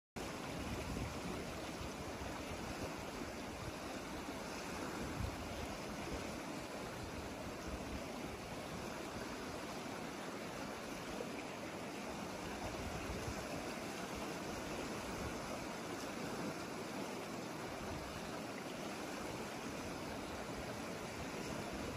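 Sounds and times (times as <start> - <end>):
river water rushing: 0.2 - 21.9.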